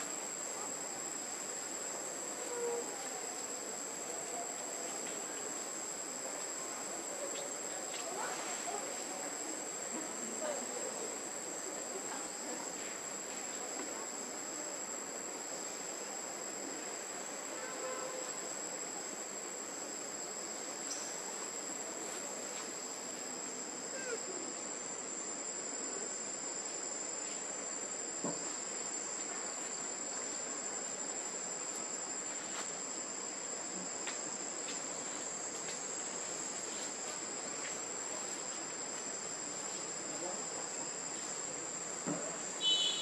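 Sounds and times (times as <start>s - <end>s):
insect chorus drone: 0.0s - 43.0s.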